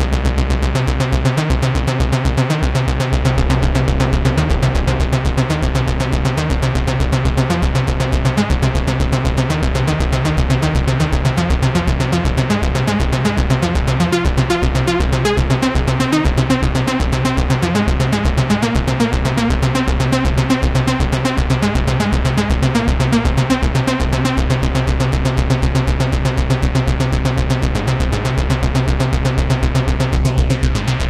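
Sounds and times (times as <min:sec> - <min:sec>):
pulsing synth notes: 0:00.0 - 0:31.0
steady synth bass: 0:00.0 - 0:31.0.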